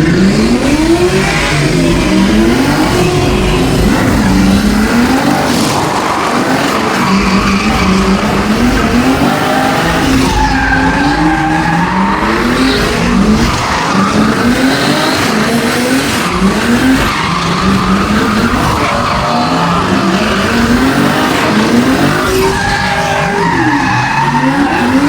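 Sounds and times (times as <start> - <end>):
car engine revving: 0.0 - 25.0
tyres skidding: 0.0 - 25.0.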